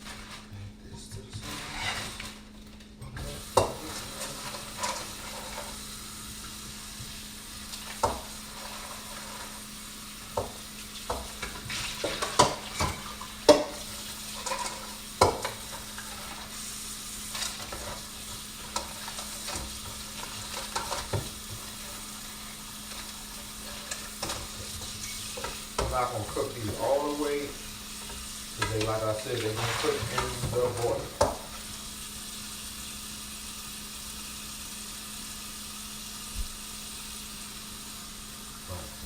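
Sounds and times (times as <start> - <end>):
garlic sizzling in a pan: 1.2 - 2.5, 3.1 - 39.0.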